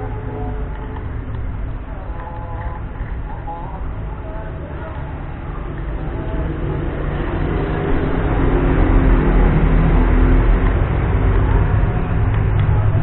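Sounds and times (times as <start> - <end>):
motor engine rumbling: 0.0 - 13.0.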